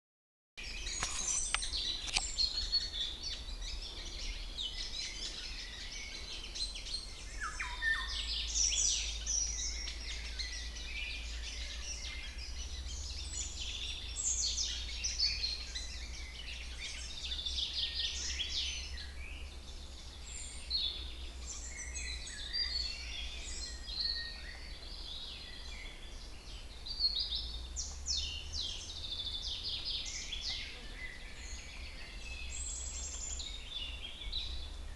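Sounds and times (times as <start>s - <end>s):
songbirds chorus: 0.6s - 34.9s.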